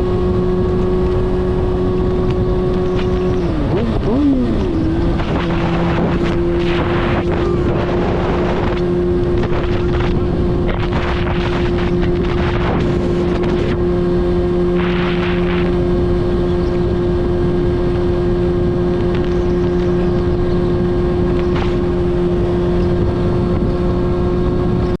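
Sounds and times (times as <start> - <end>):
car engine running steadily: 0.0 - 25.0
wind noise on microphone: 0.0 - 25.0.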